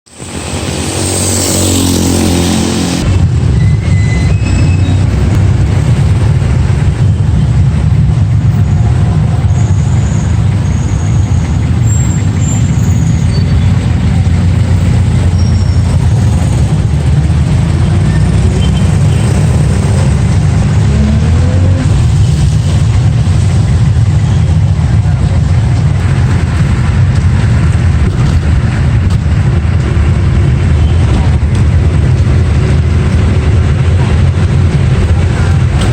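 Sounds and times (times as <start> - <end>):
vehicle engine rumbling: 0.0 - 35.9.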